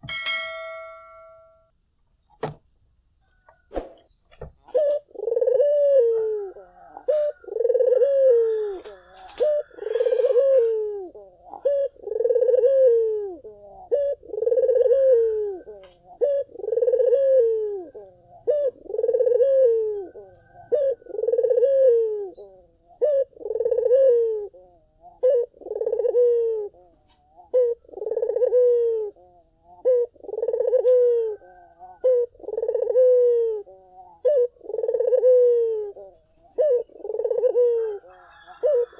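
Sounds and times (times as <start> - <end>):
dove cooing: 4.6 - 38.9.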